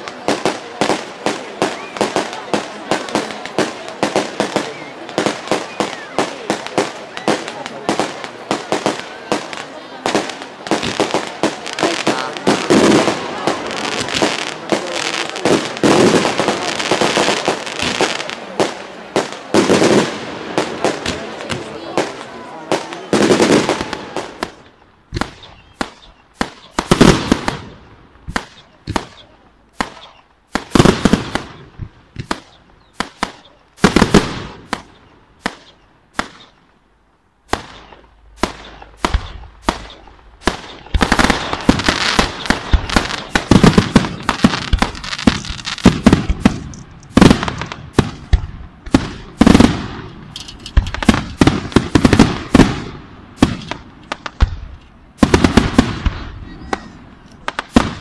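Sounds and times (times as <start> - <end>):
fireworks bursting with loud bangs: 0.0 - 58.0.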